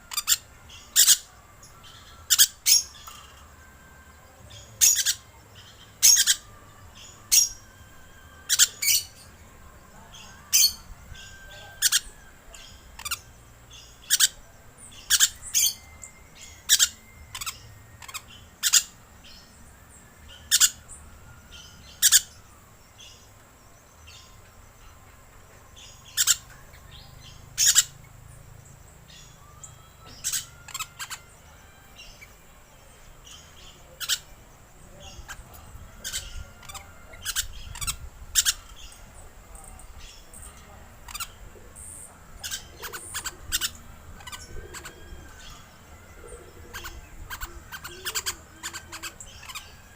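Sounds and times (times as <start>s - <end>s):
lorikeet screeching calls: 0.0s - 3.5s, 4.5s - 9.4s, 10.0s - 19.4s, 20.2s - 23.2s, 25.8s - 28.1s, 29.1s - 34.4s, 35.0s - 49.9s.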